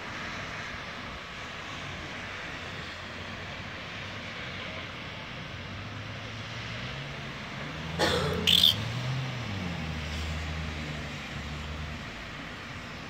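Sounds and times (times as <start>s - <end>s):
vehicle engine drone: 0.1s - 13.0s.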